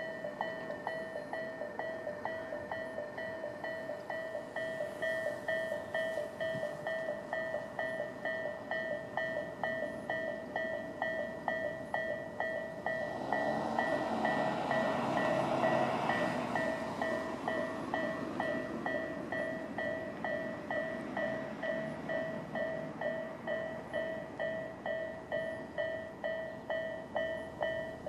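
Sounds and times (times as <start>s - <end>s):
electric train approaching: 0.0s - 28.0s
level crossing warning bell: 0.0s - 28.0s.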